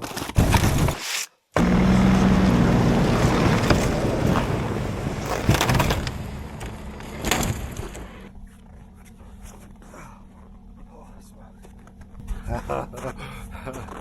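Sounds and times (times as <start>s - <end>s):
engine humming: 1.6s - 14.0s.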